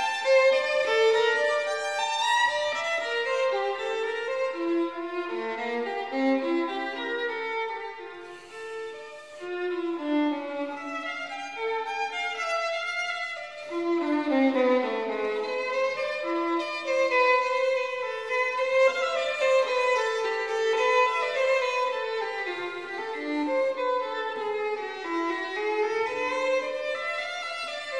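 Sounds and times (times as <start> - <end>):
violin melody over strings: 0.0 - 27.9.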